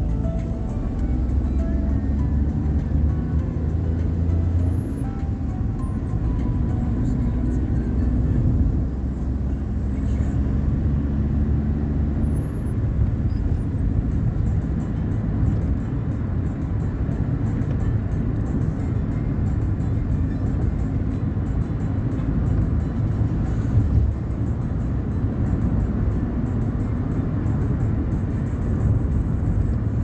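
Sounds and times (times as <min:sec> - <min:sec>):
road vehicles rumbling: 0:00.0 - 0:30.0.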